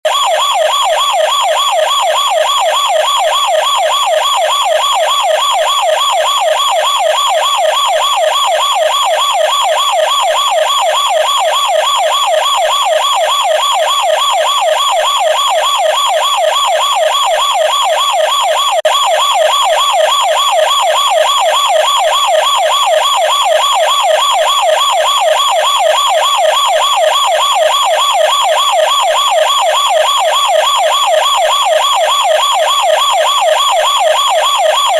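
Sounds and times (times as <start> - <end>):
toy police siren warbling: 0.1 - 34.9.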